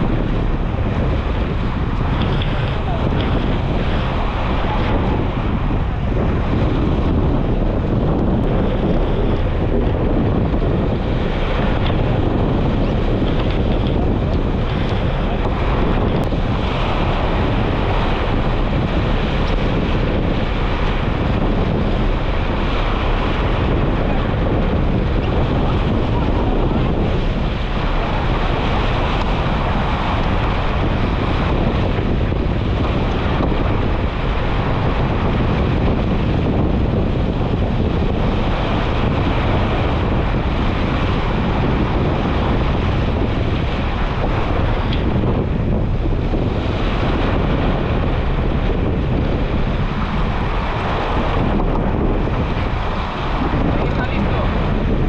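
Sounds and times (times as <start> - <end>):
water rushing along boat hull: 0.0 - 55.0
wind blowing over microphone: 0.0 - 55.0.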